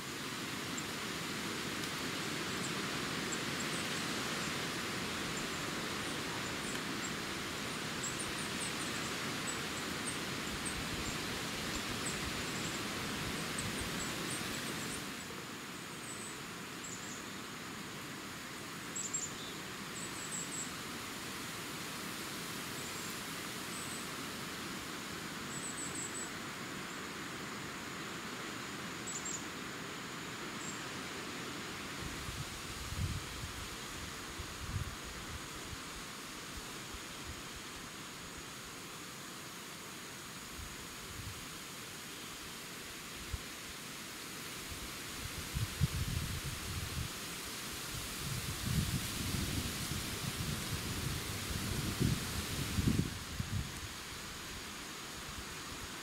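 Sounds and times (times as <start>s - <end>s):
outdoor weather hiss: 0.0s - 56.0s.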